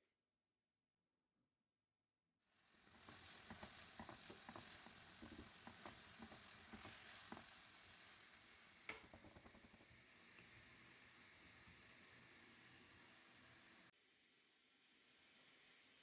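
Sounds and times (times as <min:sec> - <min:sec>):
food sizzling in a pan: 0:02.5 - 0:16.0.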